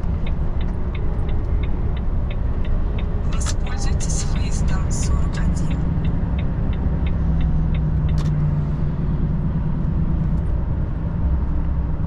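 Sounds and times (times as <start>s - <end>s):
turn signal ticking: 0.0s - 10.7s
truck engine and road noise: 0.0s - 12.0s.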